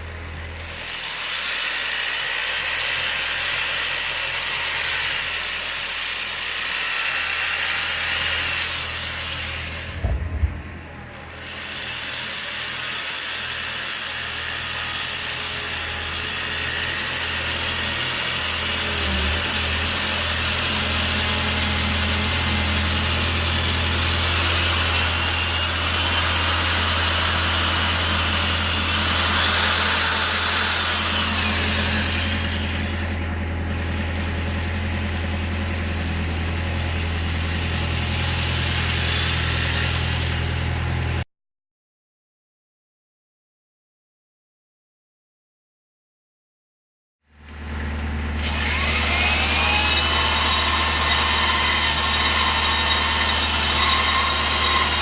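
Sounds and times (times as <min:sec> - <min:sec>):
power tool whining on steel: 0:00.0 - 0:41.2, 0:47.4 - 0:55.0.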